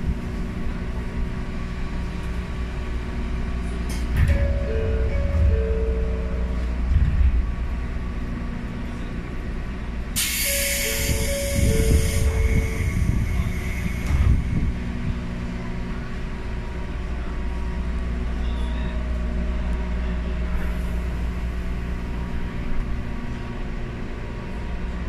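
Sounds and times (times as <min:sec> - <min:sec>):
train interior rumble: 0:00.0 - 0:25.0.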